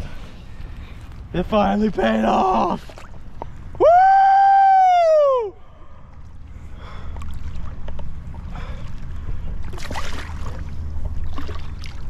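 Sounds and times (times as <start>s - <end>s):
water sloshing and splashing: 0.0s - 3.7s, 6.0s - 12.0s.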